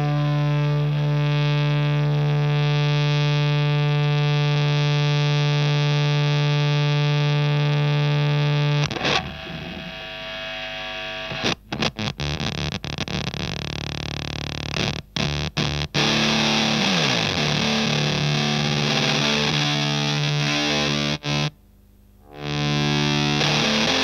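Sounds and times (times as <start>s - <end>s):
fuzzed electric guitar: 0.0s - 24.0s.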